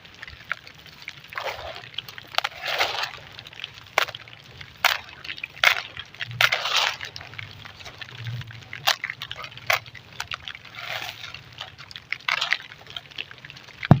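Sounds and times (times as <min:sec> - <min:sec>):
sand crumbling and crunching: 0:00.0 - 0:14.0.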